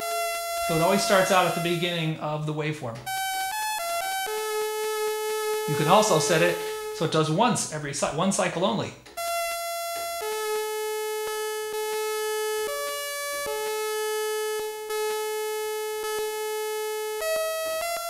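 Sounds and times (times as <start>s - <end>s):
bright buzzy synthesizer tone: 0.0s - 2.2s, 3.0s - 8.1s, 9.1s - 18.0s.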